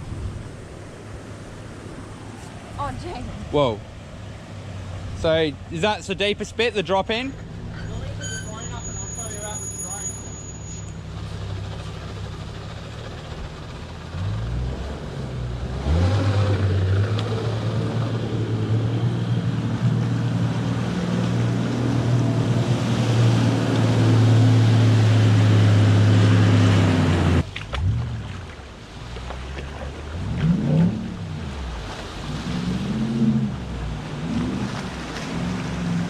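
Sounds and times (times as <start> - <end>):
water rushing and splashing: 0.0 - 10.3, 11.0 - 36.0
vehicle engine pulling hard: 4.4 - 36.0.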